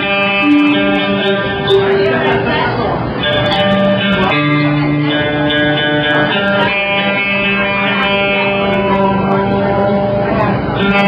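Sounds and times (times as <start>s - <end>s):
electric guitar chords: 0.0s - 11.0s.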